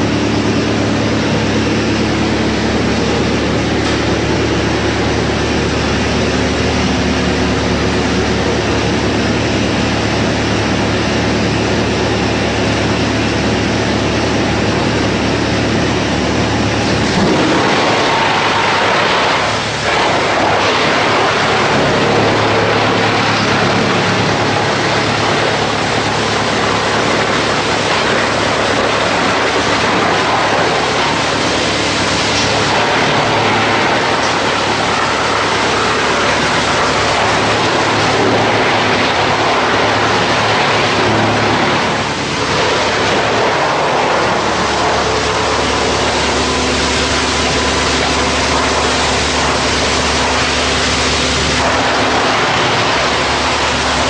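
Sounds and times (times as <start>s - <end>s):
low hum: 0.0s - 54.0s
wood chipper running: 0.0s - 54.0s.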